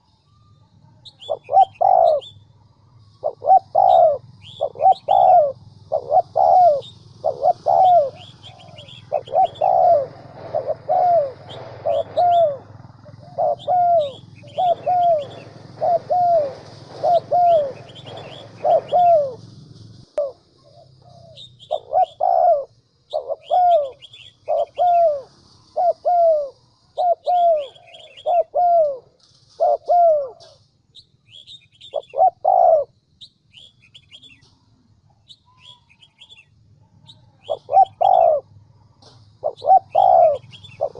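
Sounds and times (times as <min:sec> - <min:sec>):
small birds chirping: 0:00.0 - 0:40.9
dove cooing: 0:01.2 - 0:02.3, 0:03.2 - 0:30.6, 0:31.4 - 0:33.0, 0:35.5 - 0:38.6, 0:39.4 - 0:40.9.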